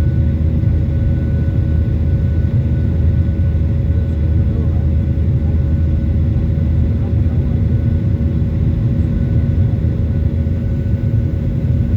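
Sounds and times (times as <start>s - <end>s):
jet engines droning: 0.0s - 11.9s.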